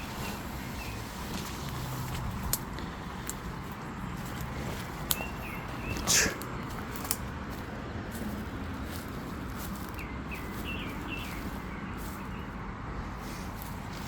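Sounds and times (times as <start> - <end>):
footsteps through grass: 0.0 - 14.0.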